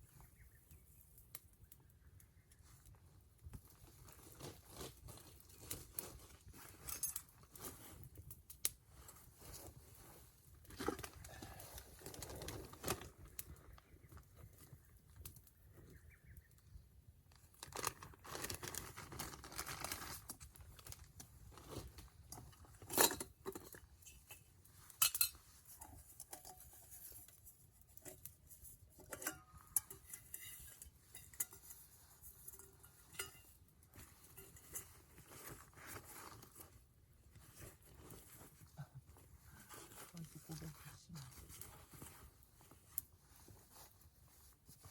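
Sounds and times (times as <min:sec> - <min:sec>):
fire snaps and pops: 0:00.1 - 0:39.4, 0:41.6 - 0:43.6
campfire crackling: 0:00.1 - 0:44.9.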